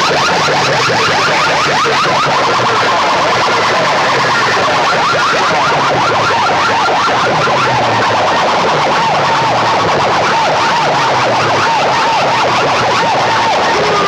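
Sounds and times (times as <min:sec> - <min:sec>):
electronic siren sound effects: 0:00.0 - 0:14.0.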